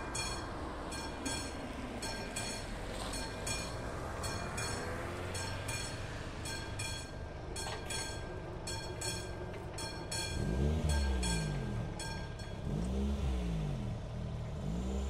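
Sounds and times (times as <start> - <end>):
level crossing bell ringing: 0.0 - 12.8.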